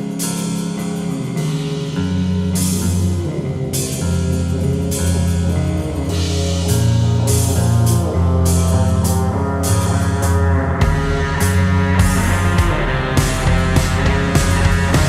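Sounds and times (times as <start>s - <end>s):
slowed reverb-heavy rock music: 0.0s - 15.0s.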